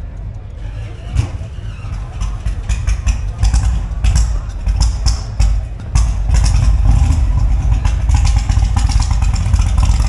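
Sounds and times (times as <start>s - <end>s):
car engine idling unevenly: 0.0s - 10.0s.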